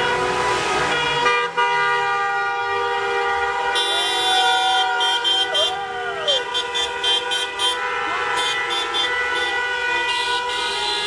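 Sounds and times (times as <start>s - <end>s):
car horns honking: 0.0s - 11.0s.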